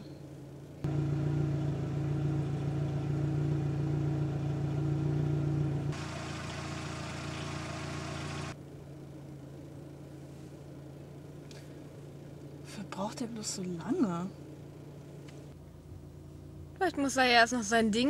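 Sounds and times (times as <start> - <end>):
car engine running: 0.4 - 17.2.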